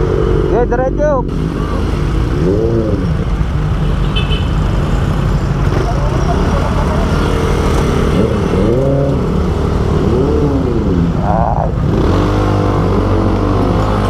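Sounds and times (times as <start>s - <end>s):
motorcycle engine revving: 0.0s - 3.8s, 4.5s - 14.0s.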